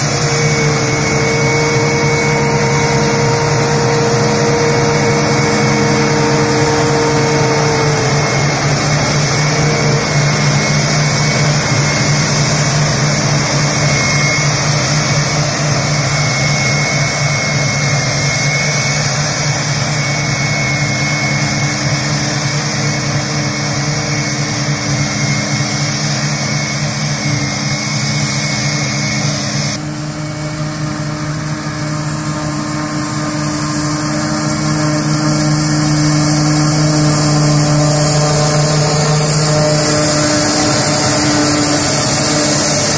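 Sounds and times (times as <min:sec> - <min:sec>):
harvester engine drone: 0:00.0 - 0:42.9
high-pitched chopping whine: 0:00.0 - 0:42.9
tractor engines: 0:00.0 - 0:42.9.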